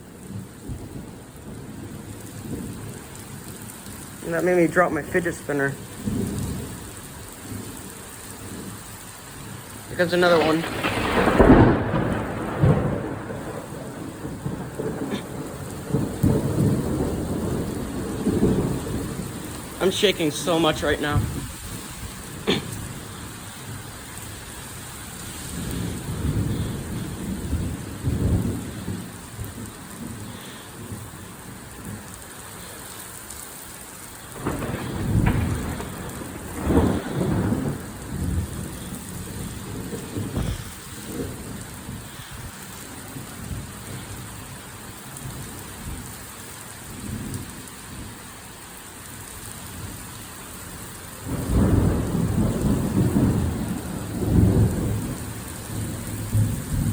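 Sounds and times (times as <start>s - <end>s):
thunder rumbling and cracking: 0.0s - 32.8s, 34.0s - 48.2s, 49.2s - 56.9s
heavy rain pouring: 0.0s - 56.9s.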